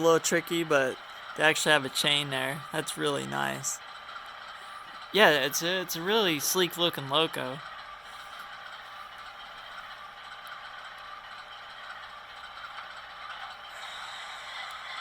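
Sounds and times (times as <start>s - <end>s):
model locomotive diesel engine sound: 0.0s - 15.0s.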